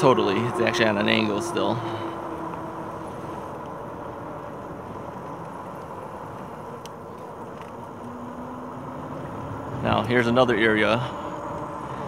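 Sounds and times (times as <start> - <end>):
tires rolling on trail: 0.0 - 12.0.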